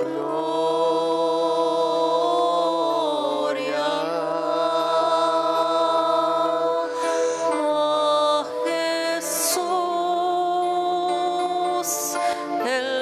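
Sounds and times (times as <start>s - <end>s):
chant-like church singing: 0.0s - 13.0s.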